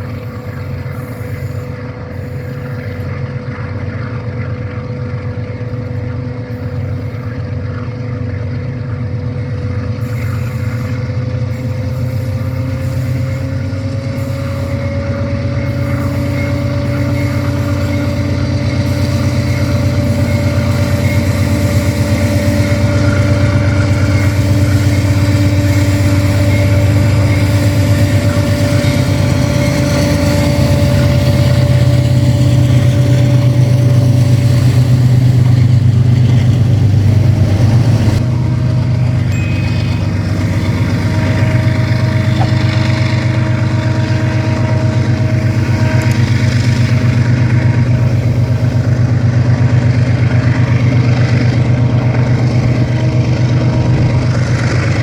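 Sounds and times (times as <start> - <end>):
deep locomotive engine drone: 0.0 - 55.0
high singing tone from rails: 0.0 - 55.0.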